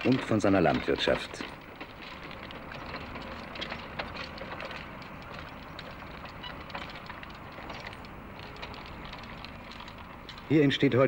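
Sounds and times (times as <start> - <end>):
wooden cart wheels clicking and rattling: 0.0 - 11.0.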